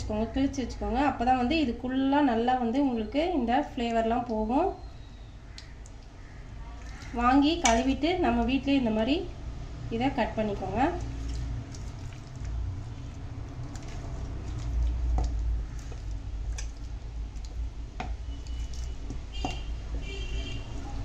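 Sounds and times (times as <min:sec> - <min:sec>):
wet squishing of kneading: 0:00.0 - 0:09.2, 0:10.1 - 0:21.0.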